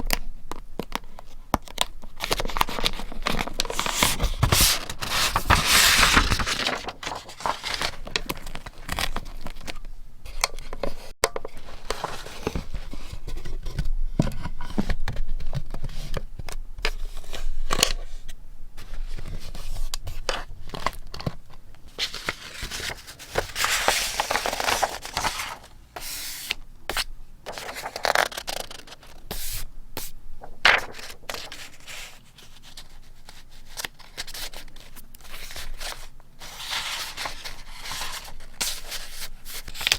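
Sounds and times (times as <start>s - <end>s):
paper rustling: 2.2s - 13.8s, 18.8s - 39.9s.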